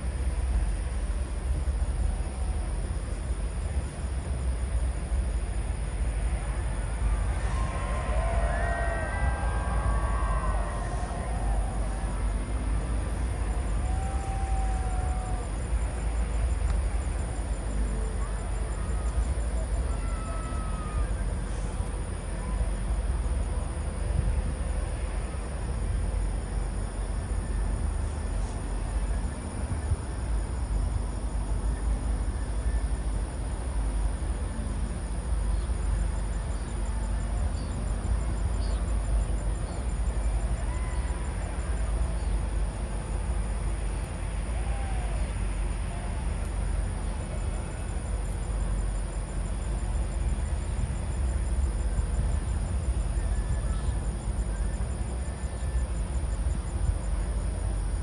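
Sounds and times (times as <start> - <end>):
crickets chirping: 0.0 - 58.0
low rumble: 0.0 - 58.0.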